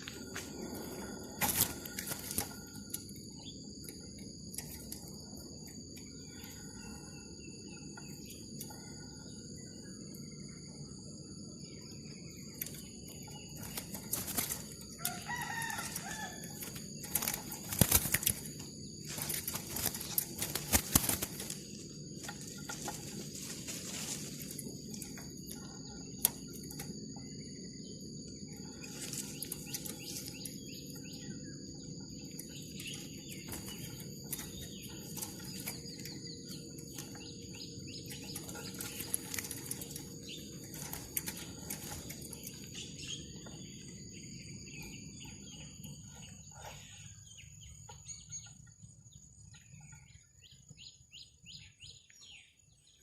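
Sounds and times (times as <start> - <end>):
bird calls: 0.0 - 53.0
high insect drone: 0.0 - 53.0.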